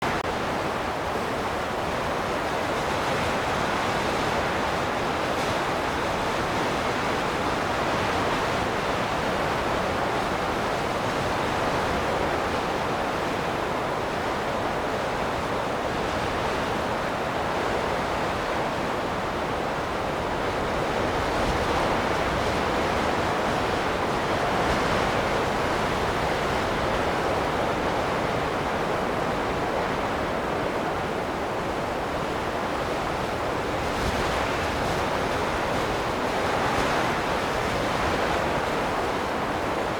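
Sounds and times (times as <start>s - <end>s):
wind blowing in gusts: 0.0s - 39.9s.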